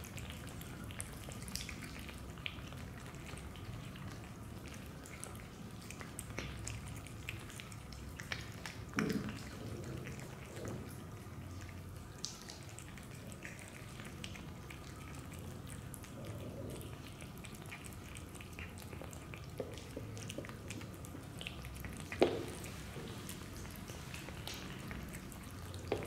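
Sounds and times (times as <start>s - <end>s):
cat eating wet food: 0.0s - 26.0s.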